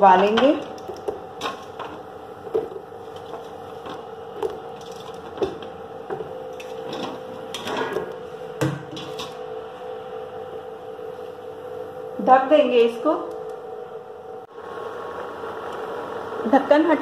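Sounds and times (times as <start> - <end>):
cooktop hum: 0.0 - 17.0.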